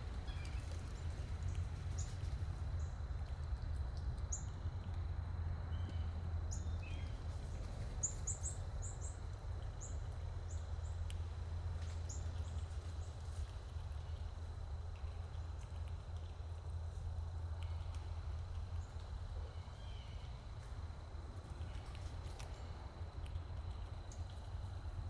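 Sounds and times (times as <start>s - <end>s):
low background rumble: 0.0s - 25.0s
small birds chirping: 0.1s - 3.0s, 4.2s - 4.8s, 5.7s - 24.7s.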